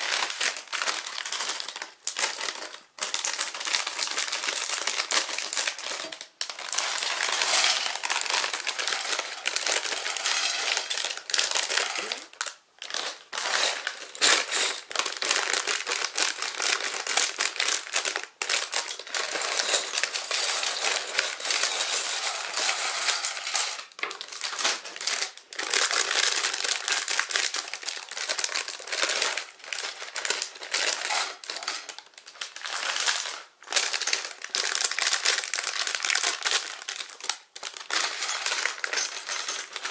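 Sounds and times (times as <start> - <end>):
plastic bags crinkling: 0.0 - 39.9
plastic bricks clattering on plate: 0.0 - 39.9.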